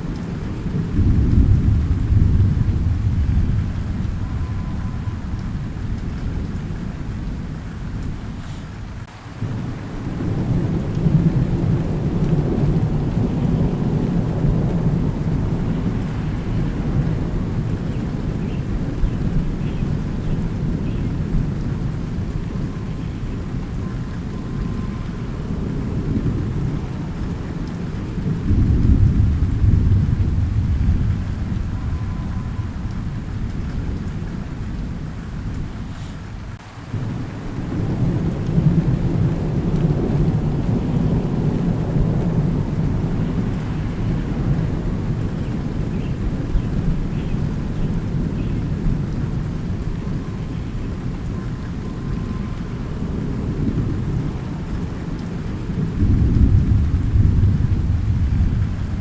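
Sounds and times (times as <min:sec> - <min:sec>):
steady rain: 0:00.0 - 0:59.0
thunder rumbling: 0:00.0 - 0:59.0.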